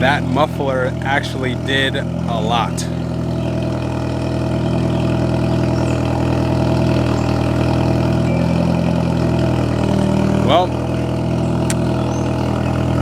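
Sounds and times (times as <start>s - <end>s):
loud car engine idling: 0.0s - 13.0s.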